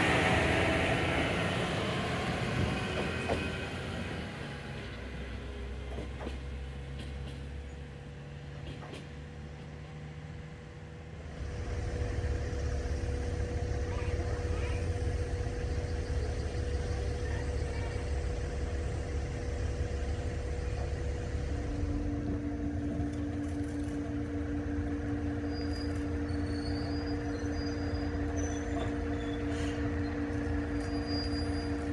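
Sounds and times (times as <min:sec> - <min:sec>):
diesel railcar engine rumble: 0:00.0 - 0:31.9.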